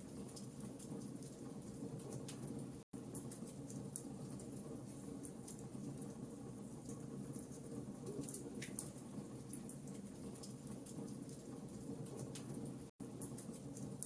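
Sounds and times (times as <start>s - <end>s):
low rumble of fire: 0.0s - 14.0s
wood fire crackling: 0.0s - 14.0s.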